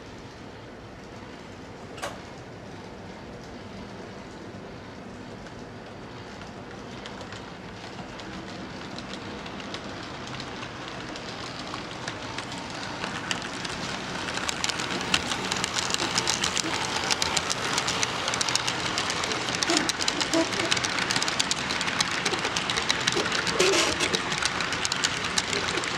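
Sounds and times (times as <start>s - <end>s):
model train rolling on track: 0.0s - 25.9s
wheels clicking over rail joints: 1.0s - 25.9s.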